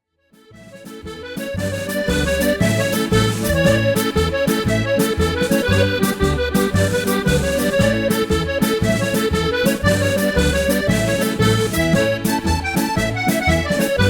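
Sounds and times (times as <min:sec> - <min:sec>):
accordion playing a jig: 0:00.3 - 0:14.0.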